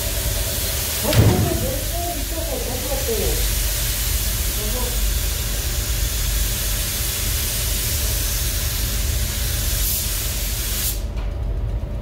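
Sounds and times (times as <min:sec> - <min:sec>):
ventilation rumble: 0:00.0 - 0:08.2, 0:10.2 - 0:12.0.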